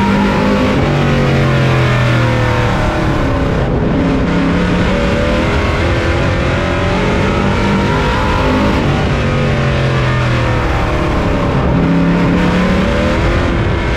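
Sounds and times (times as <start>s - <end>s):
racing truck engine revving: 0.0s - 13.9s.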